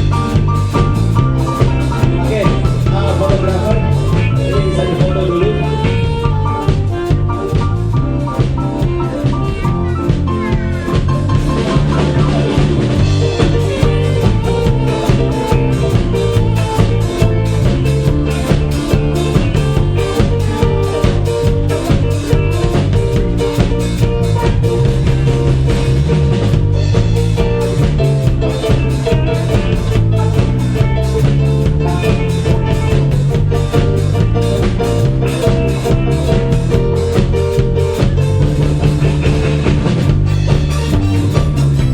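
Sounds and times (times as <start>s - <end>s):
drum kit beat: 0.0s - 41.9s
guitar: 0.0s - 41.9s
sustained keyboard notes: 0.0s - 41.9s.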